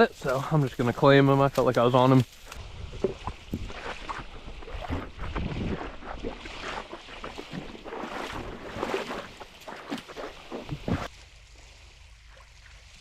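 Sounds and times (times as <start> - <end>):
lake water sloshing and splashing: 0.0 - 13.0.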